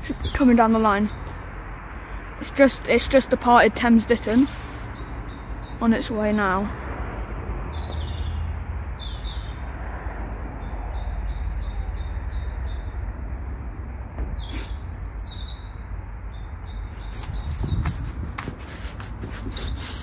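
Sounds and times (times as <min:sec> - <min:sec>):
small birds chirping: 0:00.0 - 0:06.7, 0:07.4 - 0:09.7, 0:10.6 - 0:13.1, 0:13.8 - 0:20.0.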